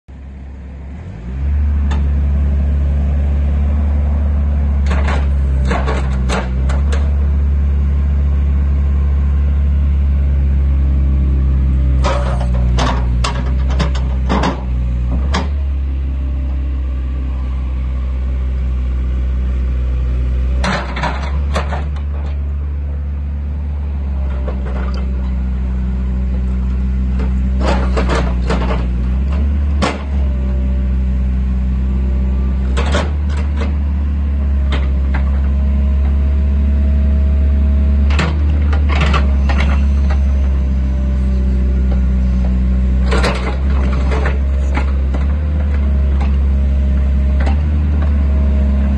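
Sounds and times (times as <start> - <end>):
excavator diesel engine running: 0.1 - 48.9.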